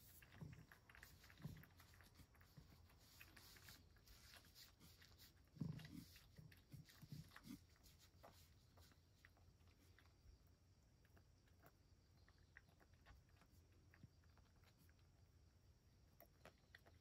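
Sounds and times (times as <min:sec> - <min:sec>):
cat licking and chewing: 0:00.0 - 0:17.0.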